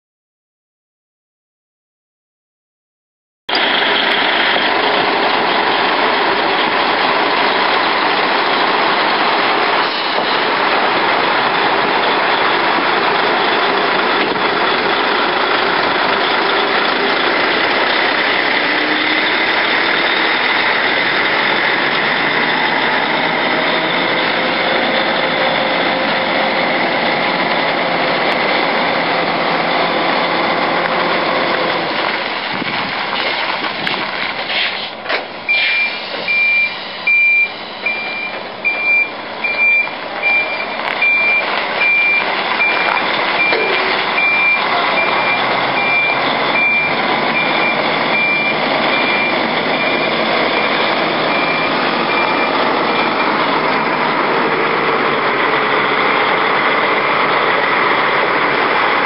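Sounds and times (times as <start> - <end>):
truck diesel engine running: 3.5 - 59.0.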